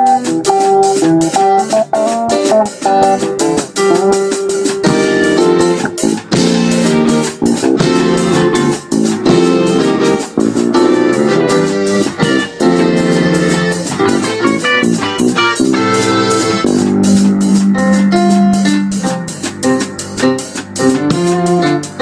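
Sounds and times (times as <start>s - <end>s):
electric guitars: 0.0s - 22.0s
electronic keyboard: 0.0s - 22.0s
steady drum beat: 0.0s - 22.0s.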